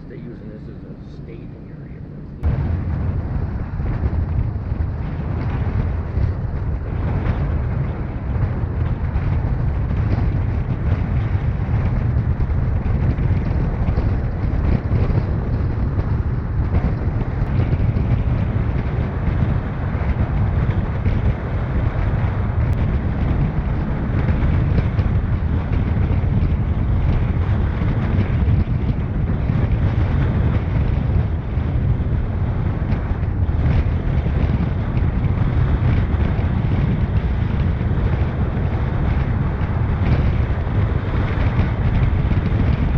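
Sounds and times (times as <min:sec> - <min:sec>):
car driving rumble: 0:00.0 - 0:42.9
road noise: 0:00.0 - 0:42.9
wind buffeting microphone: 0:00.0 - 0:42.9.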